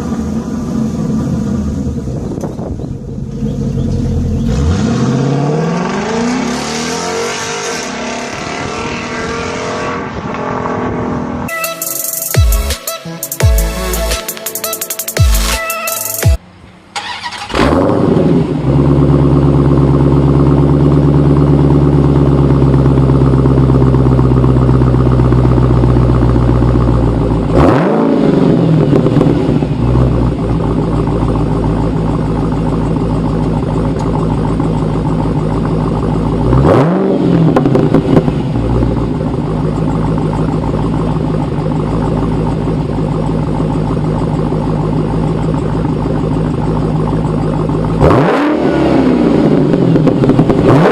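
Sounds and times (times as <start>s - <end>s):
car engine running and revving: 0.0s - 11.5s, 17.3s - 50.9s.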